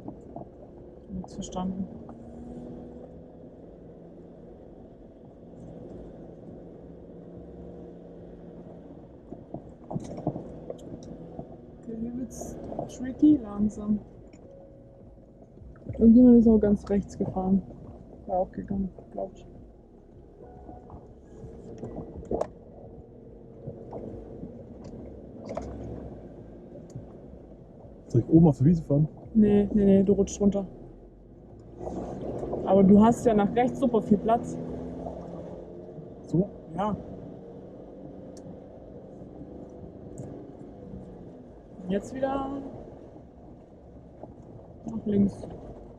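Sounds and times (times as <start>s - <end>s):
vehicle engine low rumble: 0.0s - 45.9s.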